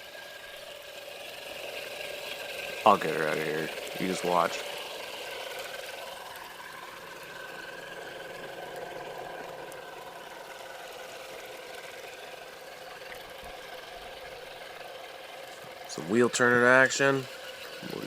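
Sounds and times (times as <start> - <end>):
tires spinning in mud: 0.0 - 18.0
toy car electric motor whining: 0.0 - 18.0.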